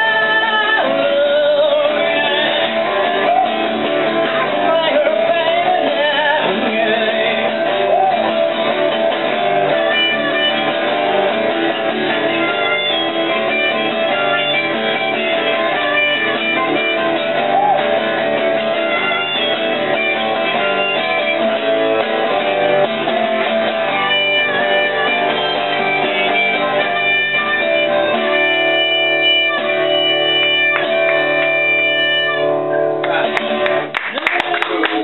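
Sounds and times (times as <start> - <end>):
blues harmonica: 0.0 - 33.8
acoustic guitar strummed: 0.0 - 35.0.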